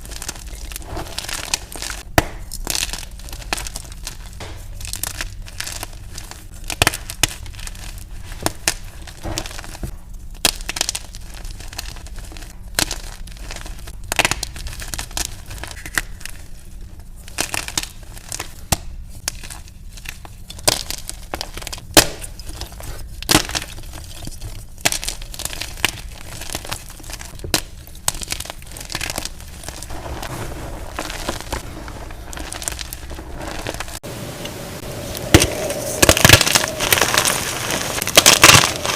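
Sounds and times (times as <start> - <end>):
chalk blocks cracking and snapping: 0.0 - 16.6, 17.2 - 34.0, 35.3 - 38.9
chalk crunching and crumbling by hand: 0.0 - 34.1, 35.3 - 38.9.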